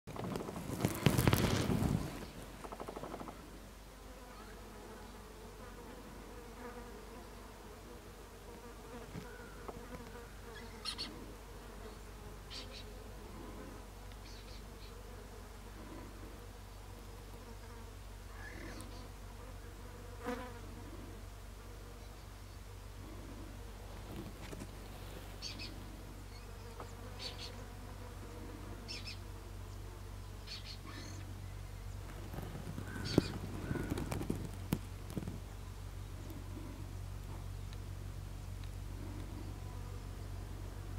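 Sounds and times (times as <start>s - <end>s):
insect buzzing: 0.1s - 37.1s.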